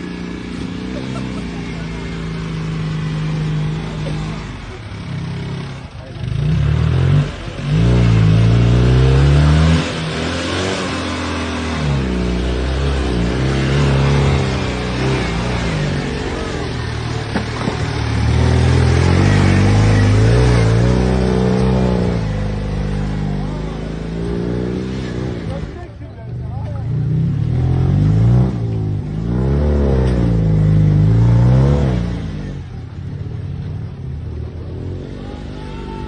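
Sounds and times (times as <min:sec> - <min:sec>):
car engine revving under load: 0:00.0 - 0:35.8.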